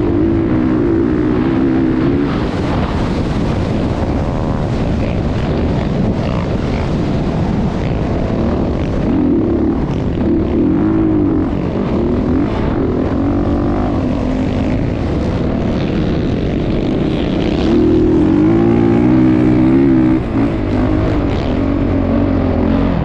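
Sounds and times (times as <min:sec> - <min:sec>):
motocross engines revving: 0:00.0 - 0:23.0.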